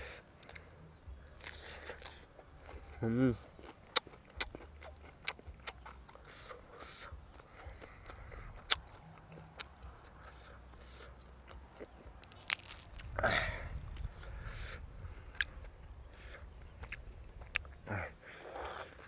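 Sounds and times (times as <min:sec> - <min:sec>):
person chewing and biting food: 0:01.3 - 0:19.0.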